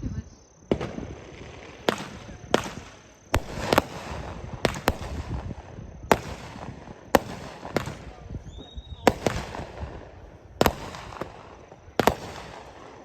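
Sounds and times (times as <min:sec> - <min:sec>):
firework crackling: 0:00.6 - 0:13.0
firework shells bursting: 0:00.7 - 0:13.0.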